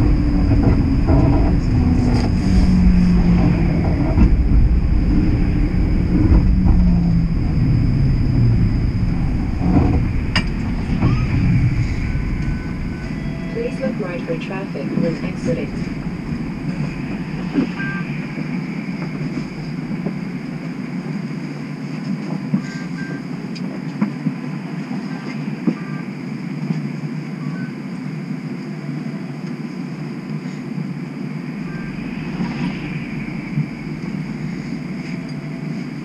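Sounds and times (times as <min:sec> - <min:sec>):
streetcar equipment humming: 0:00.0 - 0:36.0.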